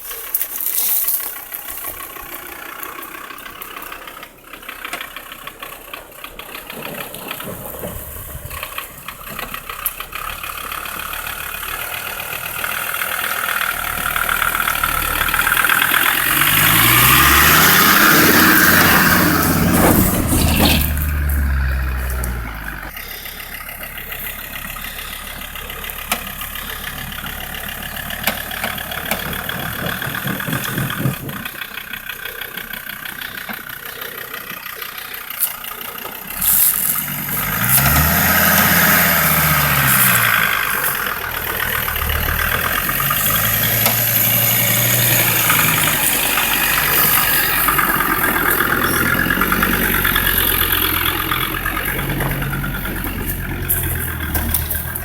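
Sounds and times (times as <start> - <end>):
engine revving: 0.1 - 55.0.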